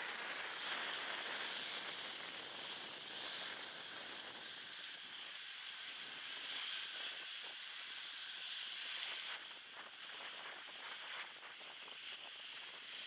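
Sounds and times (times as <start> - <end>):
small waves washing on beach: 0.0 - 13.0
wind: 0.0 - 13.0.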